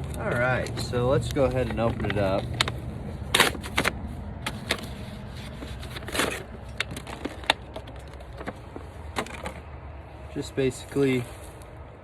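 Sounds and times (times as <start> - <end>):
packaging crinkling and rustling: 0.0 - 9.7.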